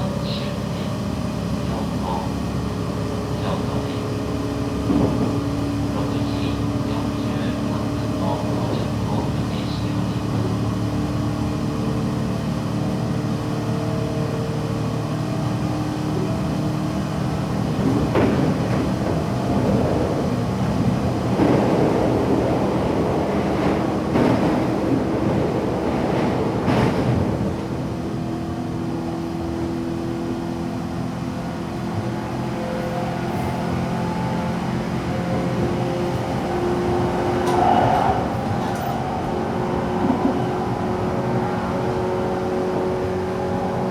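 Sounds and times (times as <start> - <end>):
train motor and gear hum: 0.0 - 43.9
wheel-on-rail rumble: 0.0 - 43.9.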